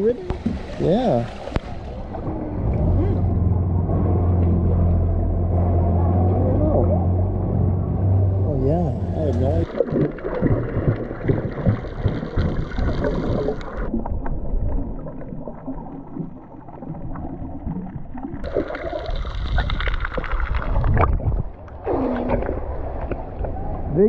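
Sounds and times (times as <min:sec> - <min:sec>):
water splashing and gurgling: 0:00.0 - 0:24.0.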